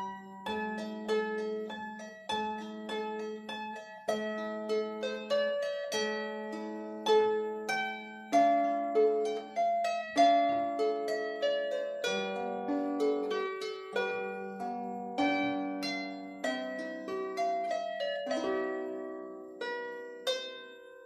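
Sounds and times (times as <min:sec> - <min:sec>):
plucked harp melody: 0:00.0 - 0:21.0.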